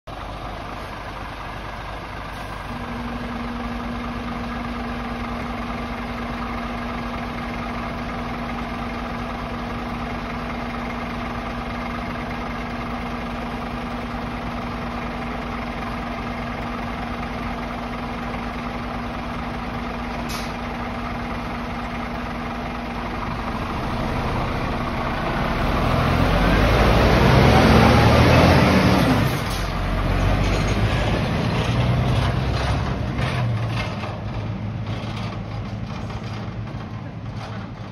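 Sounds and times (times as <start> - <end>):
lorry engine idling and accelerating: 0.1 - 37.9.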